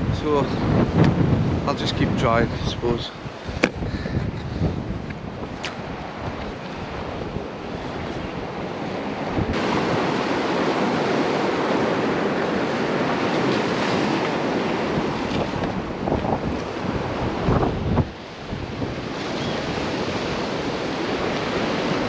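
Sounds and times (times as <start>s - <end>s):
strong wind buffeting microphone: 0.0s - 22.0s
surf washing on shore: 0.0s - 22.0s.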